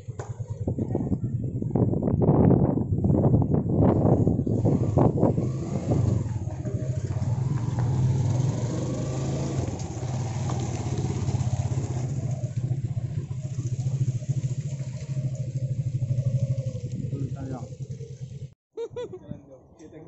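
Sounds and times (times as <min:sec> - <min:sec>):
motorcycle engine puttering: 0:00.0 - 0:02.2, 0:02.8 - 0:18.6.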